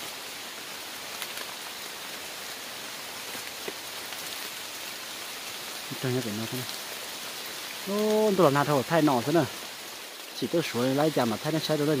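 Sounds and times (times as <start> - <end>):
rain falling through foliage: 0.0 - 12.0.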